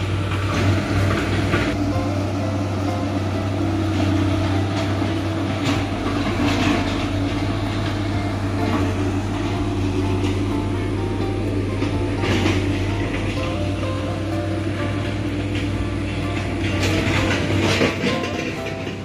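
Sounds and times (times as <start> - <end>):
excavator diesel engine droning: 0.0 - 19.0.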